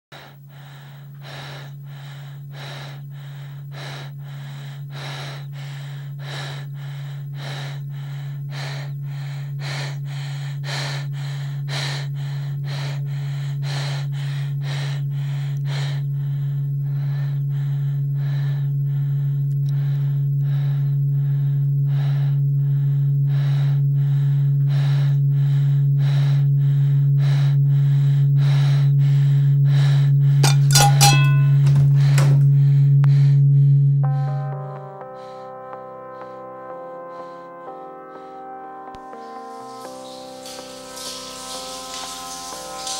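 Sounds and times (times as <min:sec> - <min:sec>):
person breathing rapidly: 0:00.1 - 0:33.9, 0:35.0 - 0:40.6
low steady hum: 0:00.2 - 0:36.2.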